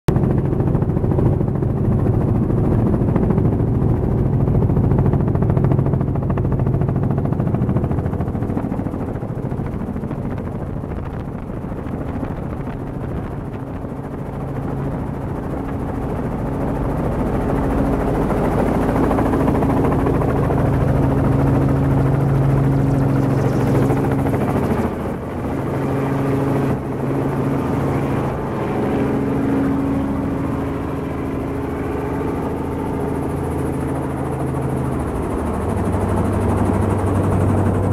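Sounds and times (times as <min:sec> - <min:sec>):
helicopter engine and rotor drone: 0:00.1 - 0:37.9.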